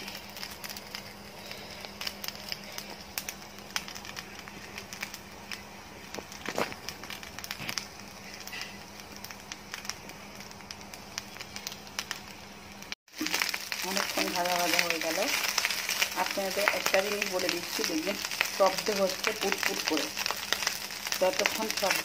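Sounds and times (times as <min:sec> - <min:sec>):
rice frying with popping: 0:00.0 - 0:22.0.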